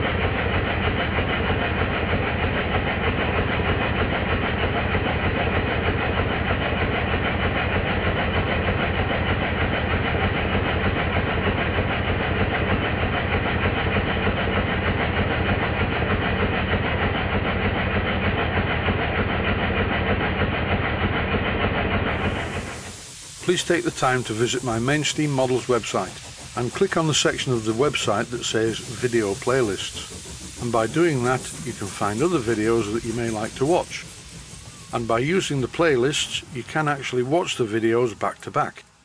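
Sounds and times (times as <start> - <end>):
model steam engine exhaust beat: 0.0 - 39.0.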